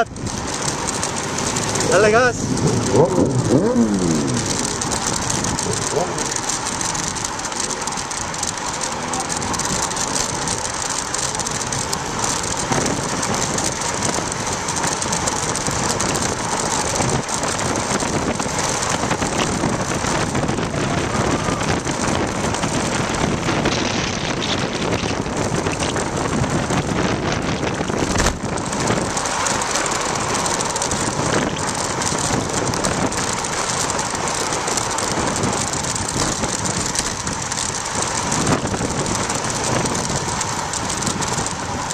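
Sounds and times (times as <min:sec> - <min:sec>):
wind rush and road noise: 0:00.0 - 0:41.9.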